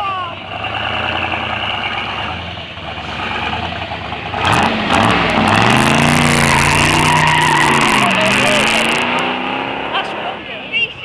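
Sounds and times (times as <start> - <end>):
car engine revving: 0.4 - 11.0.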